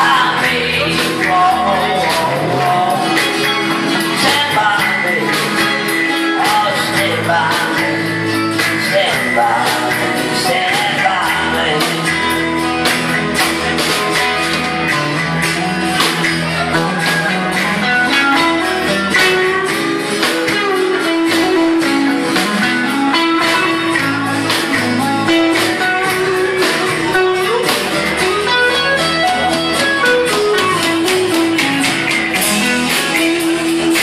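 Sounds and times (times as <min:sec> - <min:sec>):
bass guitar: 0:00.0 - 0:34.0
drum kit steady beat: 0:00.0 - 0:34.0
electric guitar: 0:00.0 - 0:34.0
strummed acoustic guitar: 0:00.0 - 0:34.0.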